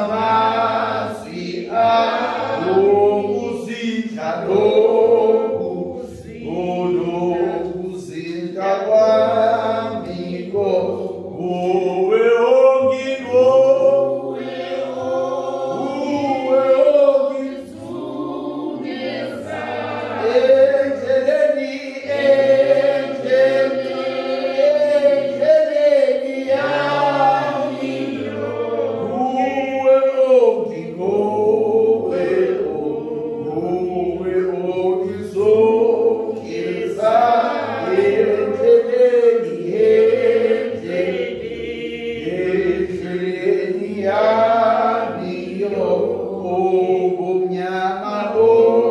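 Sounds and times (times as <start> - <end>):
congregation singing a hymn: 0.0 - 48.9.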